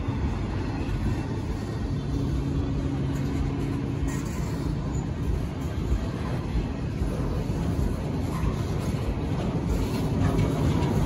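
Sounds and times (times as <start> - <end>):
low steady hum: 0.0 - 11.0
train wheels rumbling on rails: 0.0 - 11.0.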